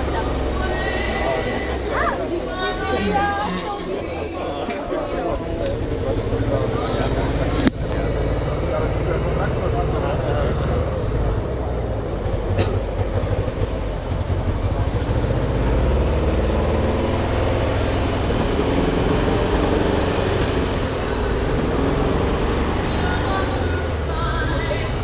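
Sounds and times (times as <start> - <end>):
car engine running: 0.0 - 25.0
voices: 0.0 - 25.0.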